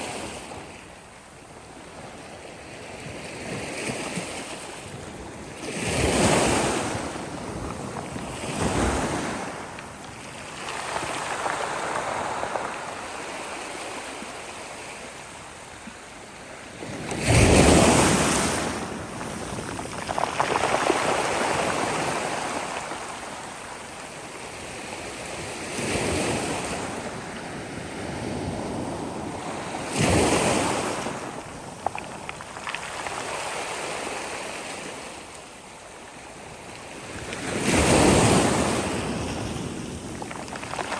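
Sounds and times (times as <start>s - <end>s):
sea waves breaking on shore: 1.9s - 40.9s.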